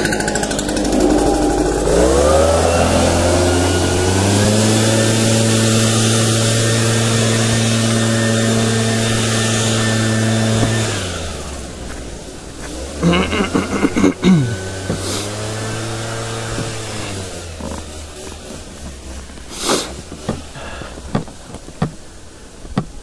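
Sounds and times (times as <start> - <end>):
small engine revving: 0.0 - 21.2.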